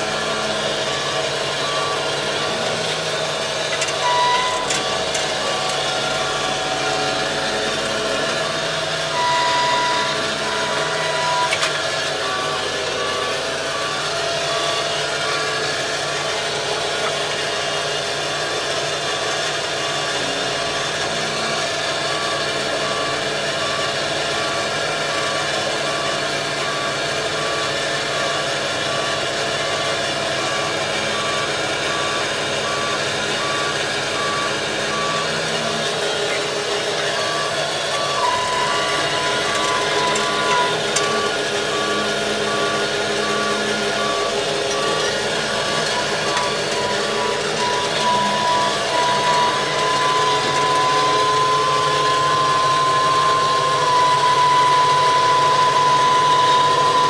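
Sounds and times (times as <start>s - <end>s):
crawler crane engine running: 0.0s - 57.0s
steady machine whine: 0.0s - 57.0s
travel alarm beeping: 0.0s - 57.0s.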